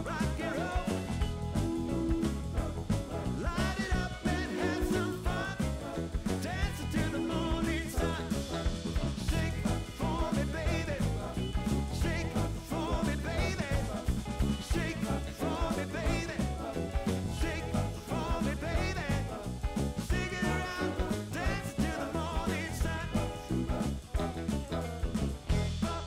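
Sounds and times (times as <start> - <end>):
song with singing over a band: 0.0 - 26.0.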